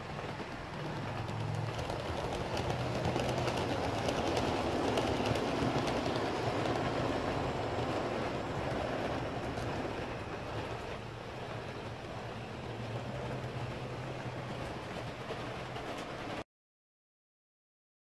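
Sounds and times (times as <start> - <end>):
model train rumbling on track: 0.0 - 16.4
wheels clicking over rails: 0.0 - 16.4.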